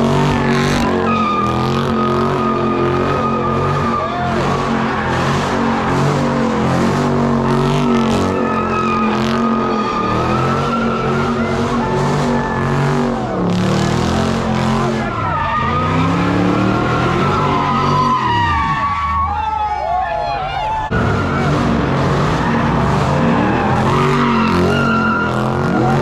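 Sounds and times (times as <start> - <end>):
car engine revving hard: 0.0 - 18.4, 20.9 - 26.0
tires squealing: 0.0 - 26.0.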